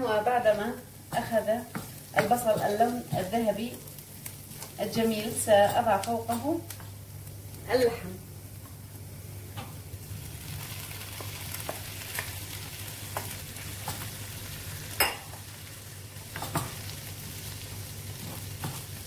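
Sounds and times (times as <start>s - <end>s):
meat sizzling in a frying pan: 0.1s - 19.0s.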